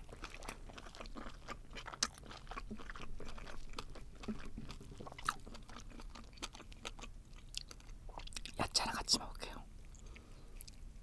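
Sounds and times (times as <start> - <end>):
crunchy chewing clicks: 0.0 - 8.6, 9.8 - 11.0.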